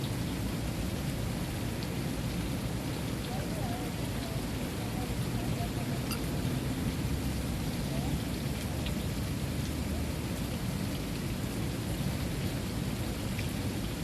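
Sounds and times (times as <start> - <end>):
water fountain splashing: 0.0 - 14.0.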